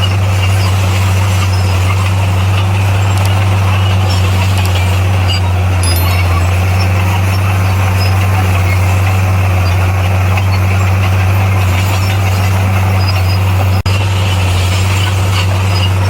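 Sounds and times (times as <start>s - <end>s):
bulldozer diesel engine drone: 0.0s - 16.0s.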